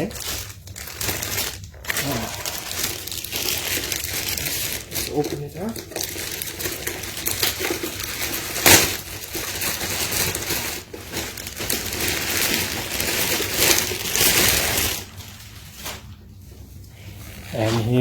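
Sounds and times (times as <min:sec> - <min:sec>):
packaging crinkling and rustling: 0:00.0 - 0:17.9.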